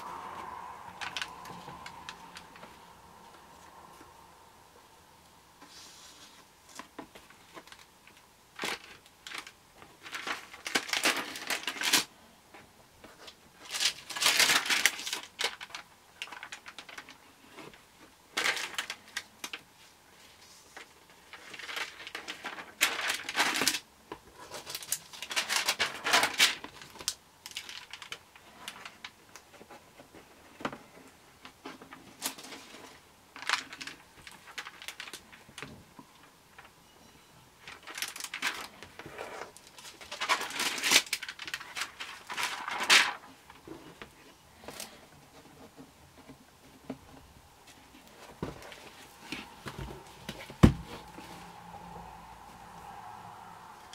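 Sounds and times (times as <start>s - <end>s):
album pages rustling and crinkling: 0.0s - 4.2s, 5.6s - 36.8s, 37.6s - 53.9s.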